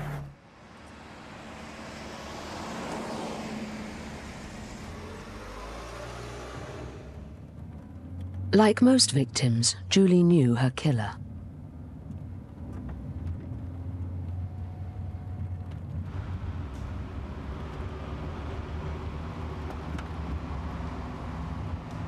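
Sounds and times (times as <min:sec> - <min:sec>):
car engine drone: 0:00.0 - 0:10.0, 0:11.1 - 0:22.0
road and tyre noise: 0:00.0 - 0:22.0.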